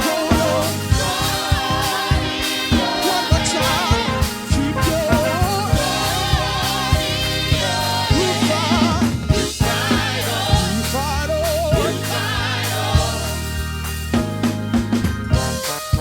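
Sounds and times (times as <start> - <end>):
gospel singing with vibrato: 0.0 - 15.8
bass line: 0.0 - 16.0
drum kit: 0.0 - 16.0.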